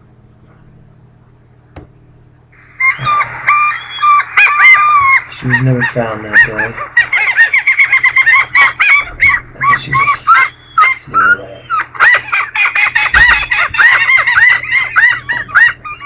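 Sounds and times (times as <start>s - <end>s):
gulls calling: 2.5s - 16.0s.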